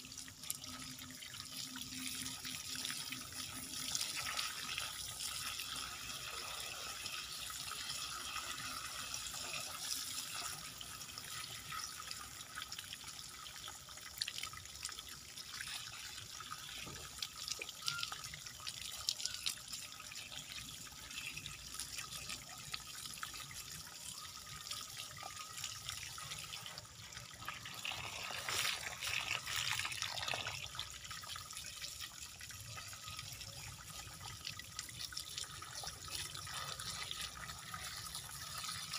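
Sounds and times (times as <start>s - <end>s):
hose water splashing and trickling: 0.0s - 38.9s.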